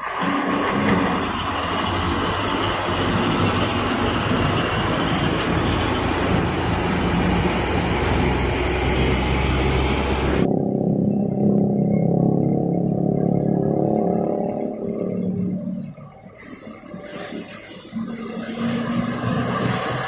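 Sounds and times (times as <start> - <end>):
road and wind noise: 0.0 - 20.0
truck diesel engine droning: 0.0 - 20.0.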